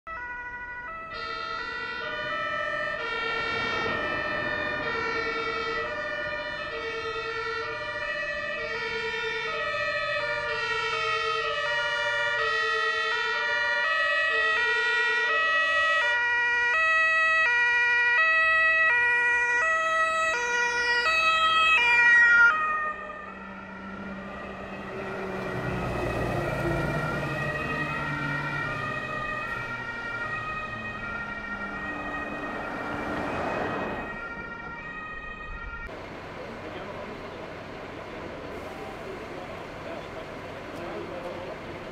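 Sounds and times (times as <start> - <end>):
fire engine two-tone sirens: 0.0 - 41.9.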